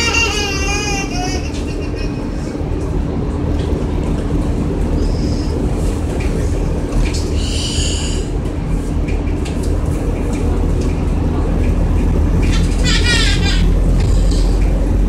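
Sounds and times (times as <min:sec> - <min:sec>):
bus engine and road rumble: 0:00.0 - 0:15.0
steady drone: 0:00.0 - 0:15.0.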